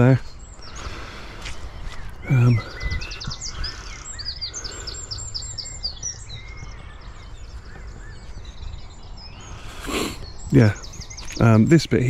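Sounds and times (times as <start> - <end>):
low outdoor background: 0.0 - 12.0
songbirds chirping: 0.0 - 12.0.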